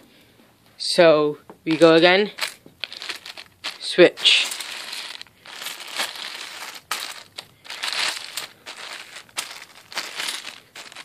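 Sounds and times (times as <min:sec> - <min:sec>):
plastic bags crinkling: 0:01.7 - 0:11.0.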